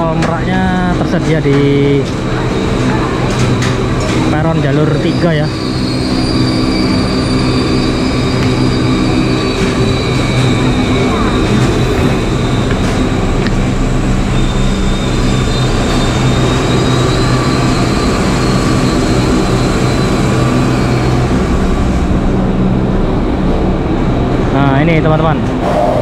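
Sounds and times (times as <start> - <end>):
diesel train engine idling: 0.0 - 26.0.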